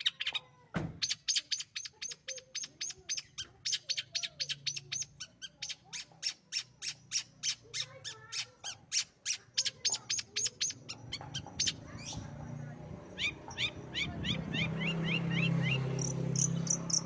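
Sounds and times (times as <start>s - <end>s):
bird singing harsh notes: 1.0s - 12.3s, 13.1s - 17.0s.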